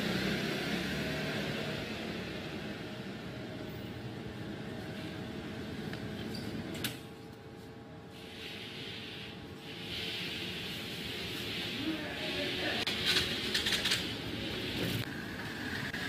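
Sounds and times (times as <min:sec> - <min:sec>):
traffic hum: 0:00.0 - 0:16.0
faint mechanical hum: 0:02.3 - 0:16.0.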